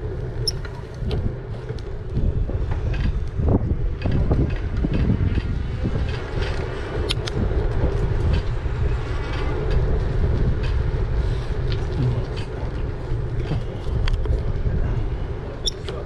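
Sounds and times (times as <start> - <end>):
tyres rumbling on road: 0.0 - 16.0
wind buffeting microphone: 0.0 - 16.0.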